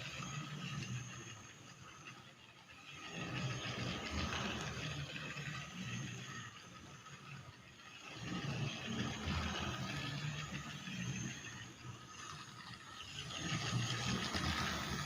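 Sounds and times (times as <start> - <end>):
rattle of toy train wheels: 0.0 - 15.0
toy train motor whirring: 0.0 - 15.0.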